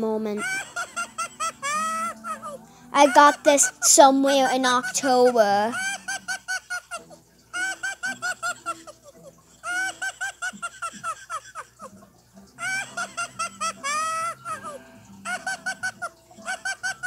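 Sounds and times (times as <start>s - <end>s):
toy electronic giggling: 0.4s - 17.0s.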